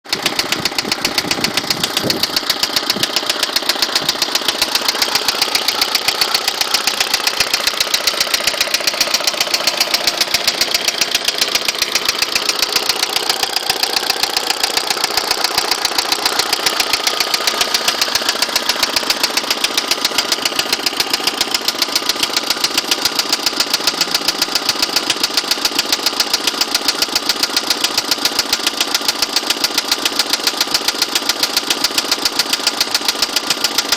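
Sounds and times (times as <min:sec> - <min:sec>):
engine idling with knocking: 0:00.0 - 0:33.9.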